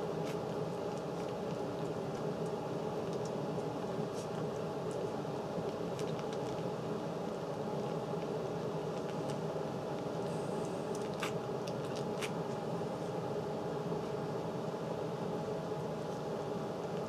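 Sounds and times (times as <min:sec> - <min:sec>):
mechanical room hum: 0:00.0 - 0:17.0.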